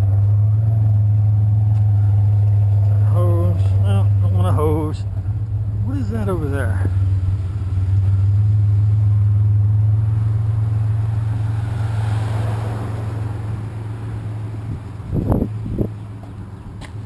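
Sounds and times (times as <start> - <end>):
road noise: 0.0 - 17.0
vehicle engine idling: 0.0 - 17.0.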